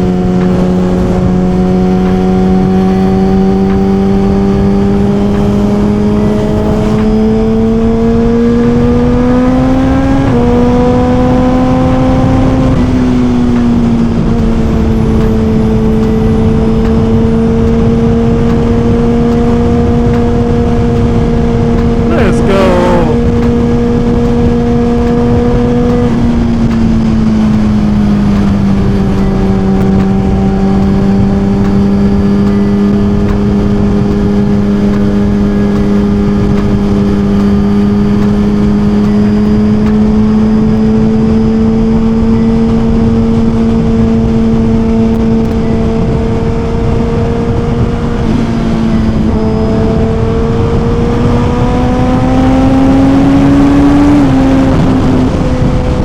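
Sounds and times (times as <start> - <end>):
heavy wind noise: 0.0 - 56.0
motorcycle engine cruising: 0.0 - 56.0.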